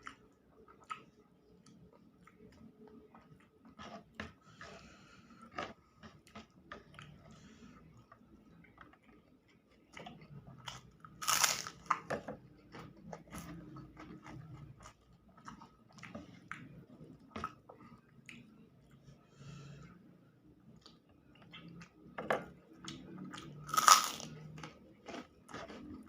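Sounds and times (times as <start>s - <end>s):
person chewing and crunching: 0.0s - 18.6s, 22.8s - 26.0s.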